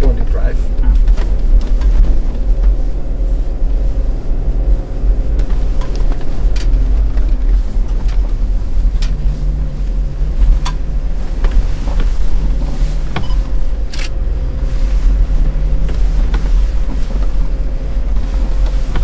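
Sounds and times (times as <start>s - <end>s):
engine low rumble from cabin: 0.0s - 19.0s.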